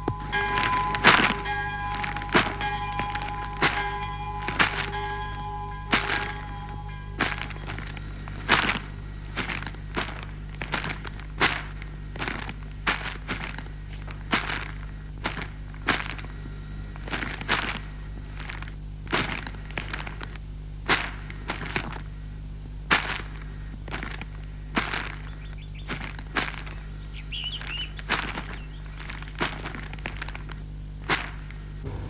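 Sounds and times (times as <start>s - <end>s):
shovels digging into earth: 0.0s - 16.4s, 17.0s - 20.1s, 20.8s - 22.0s, 22.9s - 31.8s.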